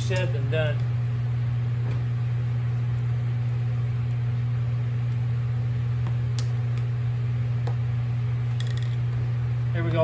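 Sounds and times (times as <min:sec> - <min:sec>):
cooler fan humming: 0:00.0 - 0:10.0.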